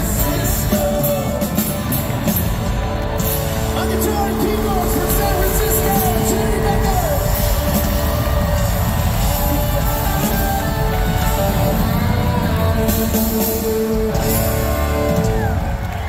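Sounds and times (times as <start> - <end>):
drum kit: 0.0 - 16.0
electric guitar: 0.0 - 16.0.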